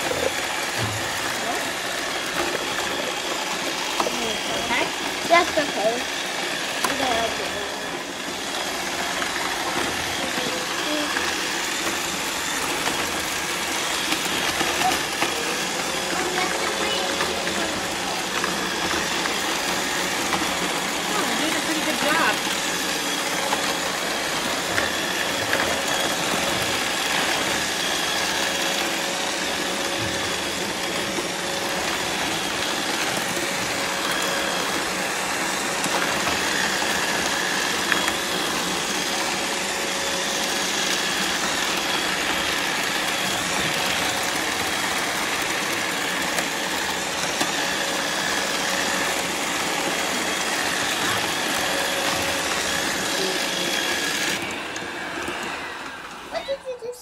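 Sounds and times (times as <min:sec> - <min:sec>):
robot vacuums whirring: 0:00.0 - 0:57.0.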